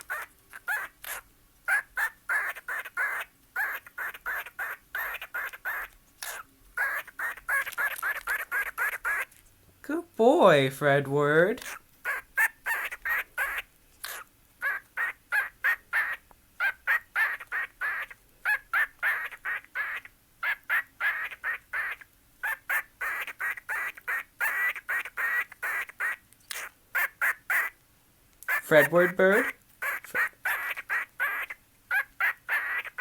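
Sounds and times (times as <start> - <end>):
cockatiel chirping: 0.0 - 9.3, 11.6 - 27.8, 28.5 - 33.0.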